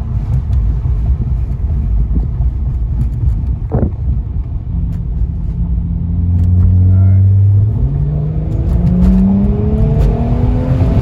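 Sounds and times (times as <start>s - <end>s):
car exhaust rumbling: 0.0s - 11.0s.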